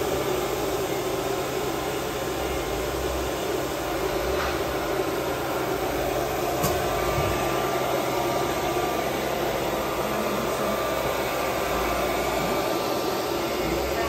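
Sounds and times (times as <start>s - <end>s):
router machine rushing noise: 0.0s - 14.0s.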